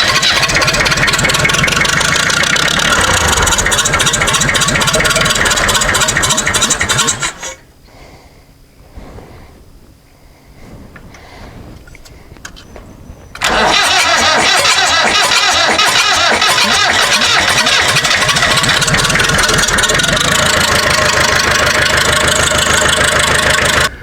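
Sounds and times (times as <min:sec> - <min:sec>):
tractor engine running: 0:00.0 - 0:07.7, 0:11.0 - 0:24.0.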